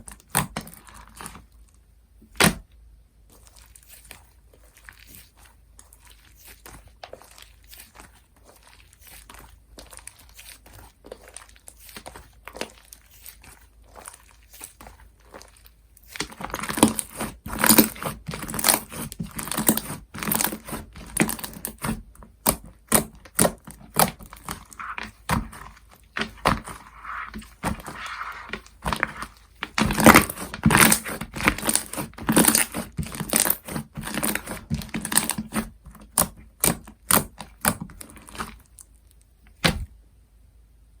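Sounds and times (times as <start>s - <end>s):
hands squishing slime: 0.0s - 1.7s, 2.3s - 39.9s.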